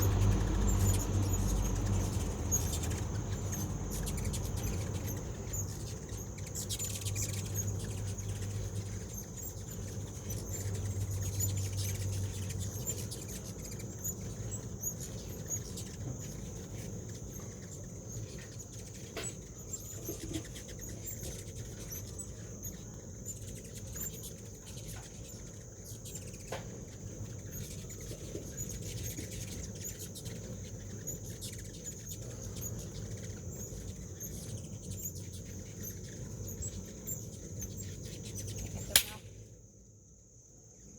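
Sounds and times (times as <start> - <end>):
high-pitched insect drone: 0.0 - 39.2
hummingbird wing hum: 0.0 - 39.7.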